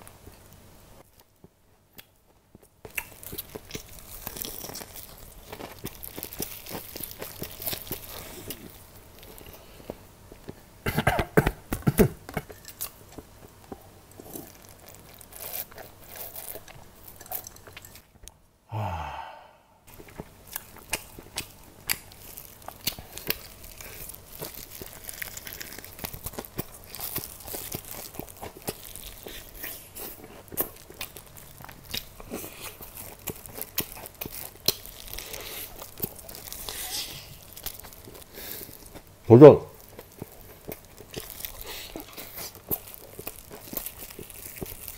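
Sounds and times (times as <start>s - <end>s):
crunching and chewing fried chicken: 0.0s - 18.1s, 19.9s - 44.9s.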